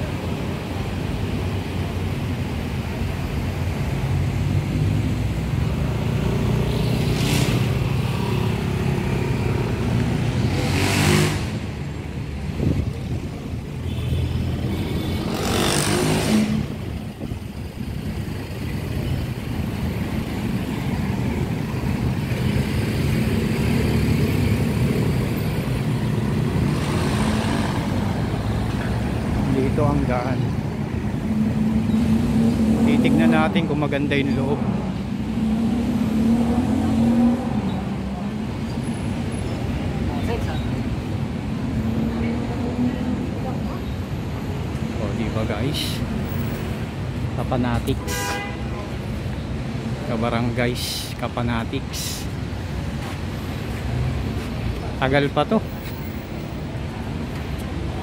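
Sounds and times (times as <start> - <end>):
low rumble of traffic: 0.0 - 58.0
vehicles passing close by: 0.0 - 58.0.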